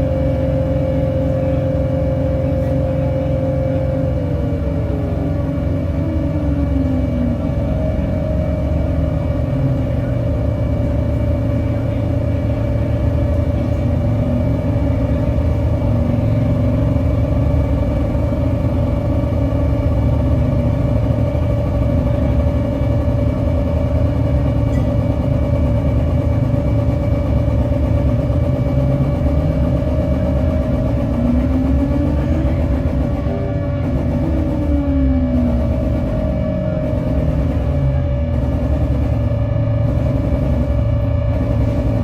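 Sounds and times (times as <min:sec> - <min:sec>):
dense low rumble: 0:00.0 - 0:42.0
mid-pitched drone tone: 0:00.0 - 0:42.0.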